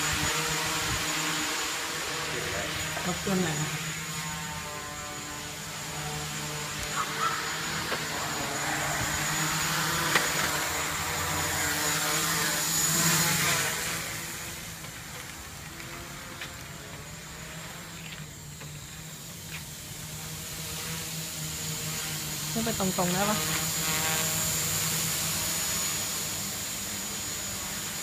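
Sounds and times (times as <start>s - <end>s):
drone motors humming: 0.0s - 28.0s.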